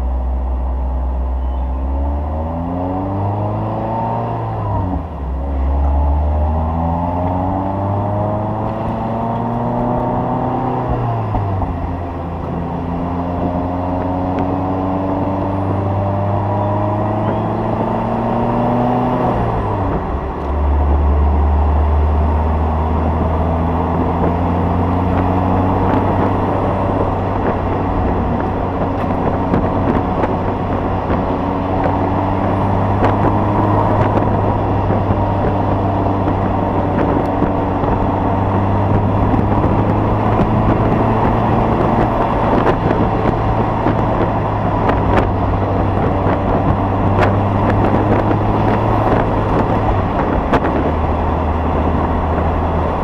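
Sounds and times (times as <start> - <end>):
car engine drone inside cabin: 0.0 - 53.0.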